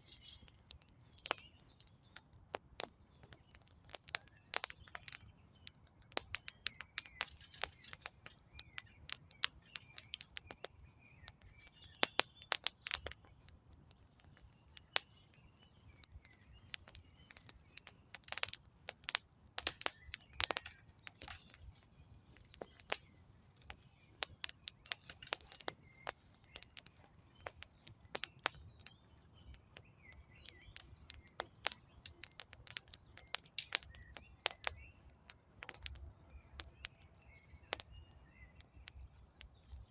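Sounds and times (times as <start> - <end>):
birds chirping faintly: 0.0 - 39.9
campfire crackling and popping: 0.0 - 39.9.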